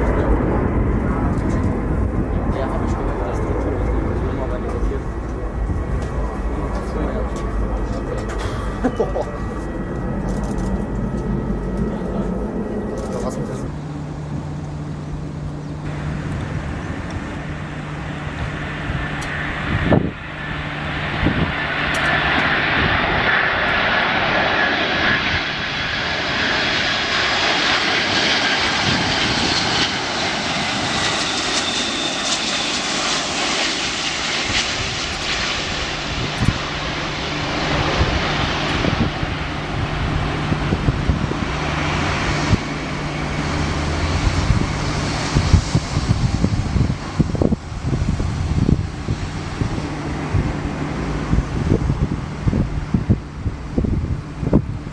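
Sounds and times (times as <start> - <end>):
high turbine whine: 0.0 - 54.9
jet airliner passing by: 0.0 - 54.9.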